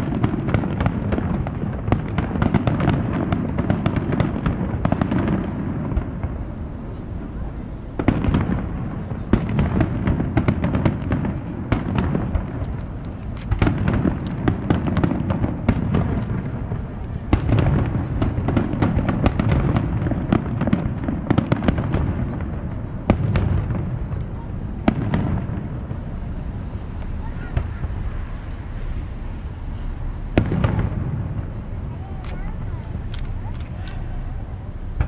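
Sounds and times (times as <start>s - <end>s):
heavy firework booms: 0.0s - 33.0s
continuous low rumble: 0.0s - 35.0s
fireworks bangs and crackles: 0.0s - 35.0s.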